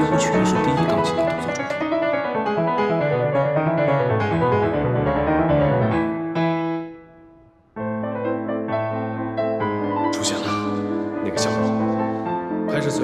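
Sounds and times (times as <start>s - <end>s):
piano playing: 0.0s - 13.0s.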